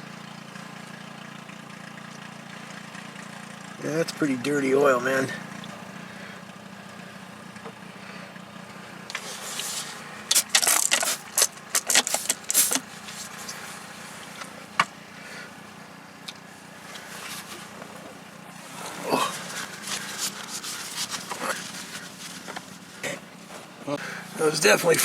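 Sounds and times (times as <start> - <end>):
steady low hum: 2.2 - 25.0.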